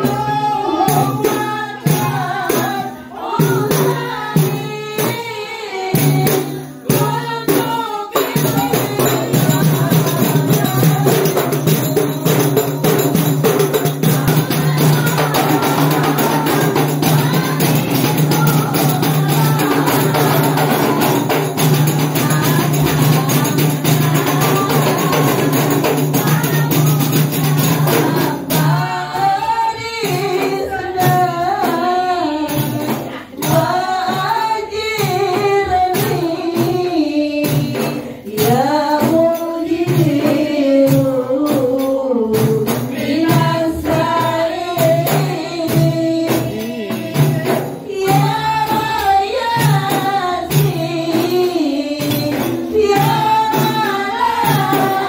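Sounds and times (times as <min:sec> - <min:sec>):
frame drums beating: 0:00.0 - 0:55.0
lead voice singing: 0:00.0 - 0:55.0
women singing devotional songs: 0:00.0 - 0:55.0.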